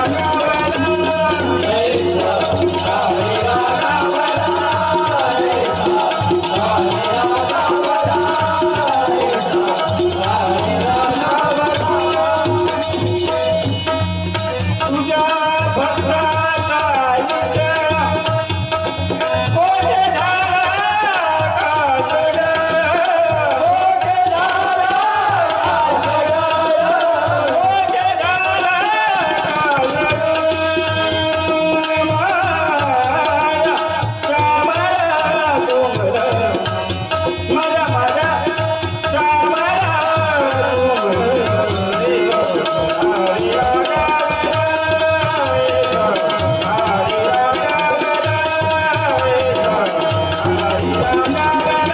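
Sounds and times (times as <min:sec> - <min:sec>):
devotional melody over held tone: 0:00.0 - 0:51.9
jingling percussion: 0:00.0 - 0:51.9
tabla: 0:00.0 - 0:51.9.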